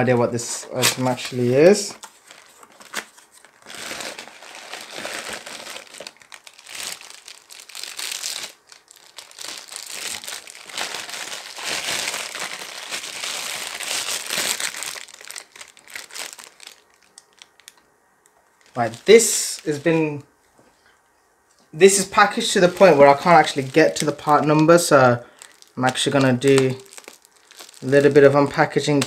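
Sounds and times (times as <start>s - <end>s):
plastic bag crinkling: 0.8s - 17.8s, 18.4s - 20.2s, 21.8s - 29.0s.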